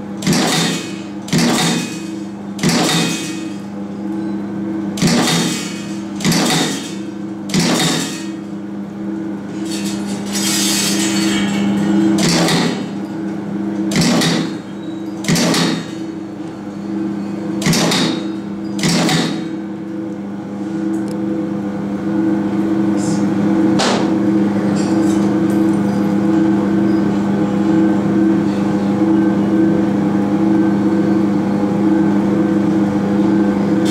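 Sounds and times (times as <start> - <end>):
steady motor hum: 0.0 - 33.9.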